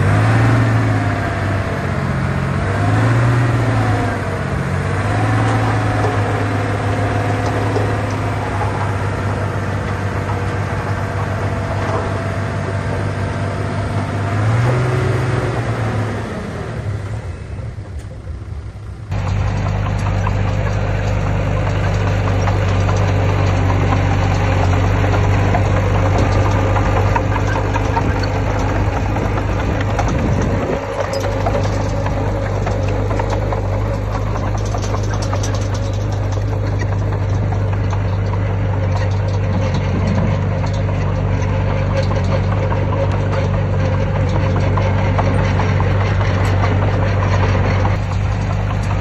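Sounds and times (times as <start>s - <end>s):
engine rattle: 0.0s - 49.0s
heavy diesel engine running: 0.0s - 49.0s.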